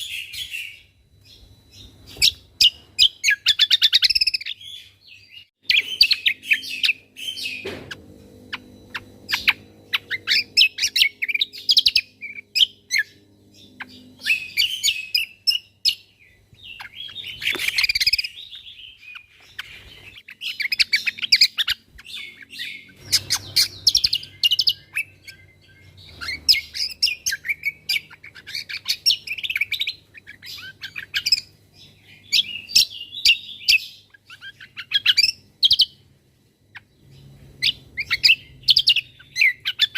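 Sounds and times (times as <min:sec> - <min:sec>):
bird fast high chirps and trills: 0:00.0 - 0:07.7, 0:08.4 - 0:36.0, 0:36.7 - 0:39.9.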